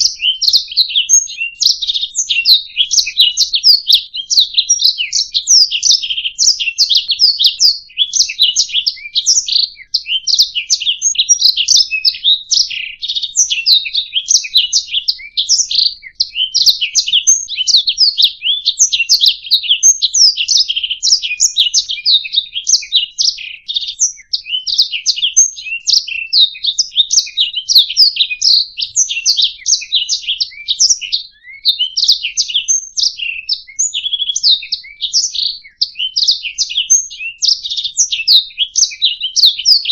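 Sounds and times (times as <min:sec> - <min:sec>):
canary singing trills and chirps: 0:00.0 - 0:39.9.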